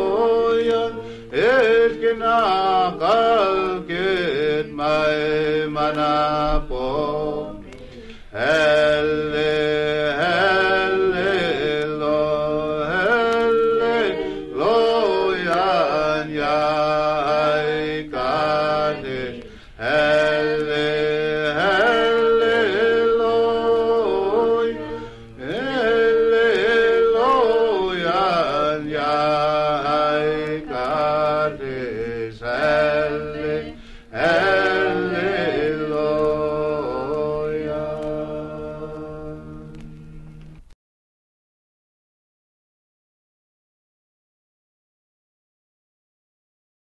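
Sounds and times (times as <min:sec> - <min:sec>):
person singing long held notes: 0:00.0 - 0:40.6.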